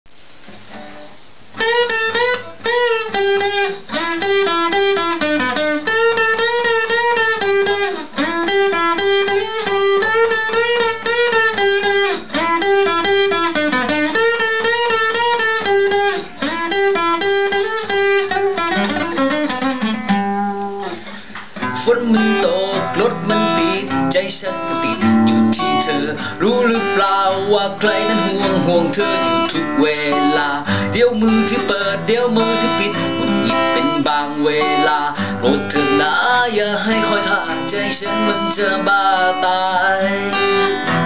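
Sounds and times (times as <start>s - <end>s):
plucked guitar melody: 0.7s - 41.0s.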